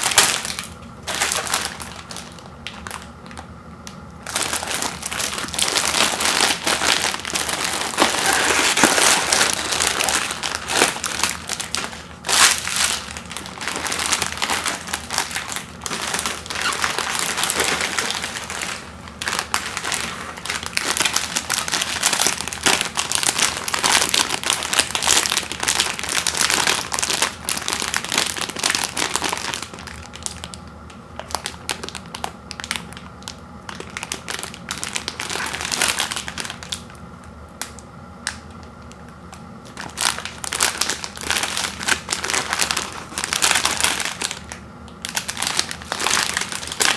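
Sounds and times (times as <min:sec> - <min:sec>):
plastic packaging crinkling: 0:00.0 - 0:37.0, 0:37.6 - 0:46.9.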